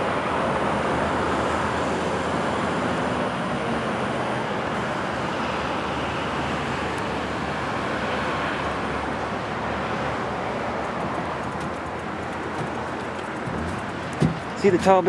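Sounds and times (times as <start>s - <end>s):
road traffic roar: 0.0s - 15.0s.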